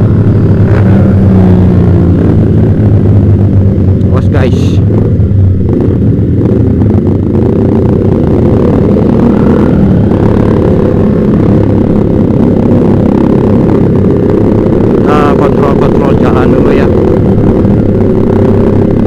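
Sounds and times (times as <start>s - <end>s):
motorcycle engine exhaust note: 0.0s - 19.0s.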